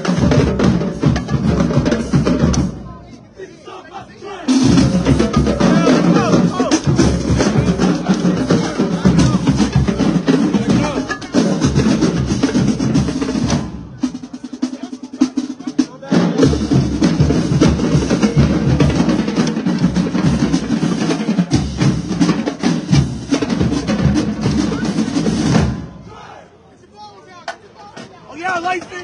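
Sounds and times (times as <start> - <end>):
marching drumline playing: 0.0 - 3.2, 3.9 - 26.2.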